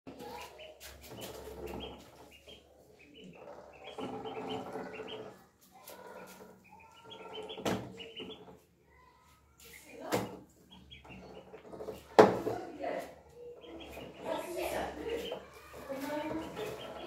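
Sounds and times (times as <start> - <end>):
ducklings peeping: 0.1 - 17.0.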